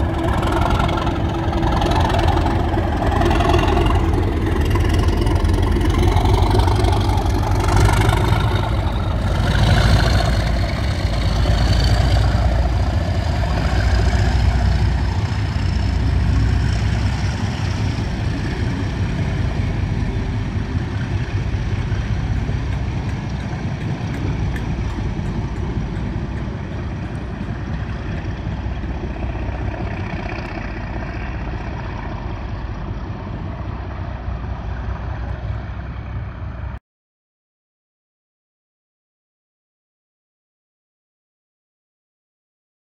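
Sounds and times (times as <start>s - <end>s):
coaches rolling past: 0.0s - 36.7s
diesel locomotive engine working: 0.0s - 36.8s.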